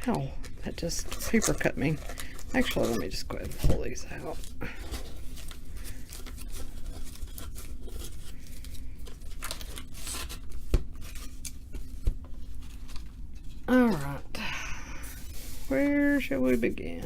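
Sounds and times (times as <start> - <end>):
card packs crinkling and rustling: 0.2 - 14.2, 15.1 - 17.0.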